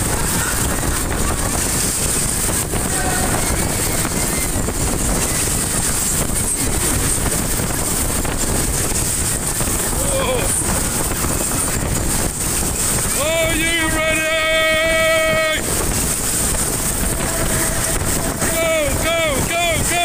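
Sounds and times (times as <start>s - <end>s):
fairground ride spinning: 0.0s - 20.0s
wind rushing over microphone: 0.0s - 20.0s.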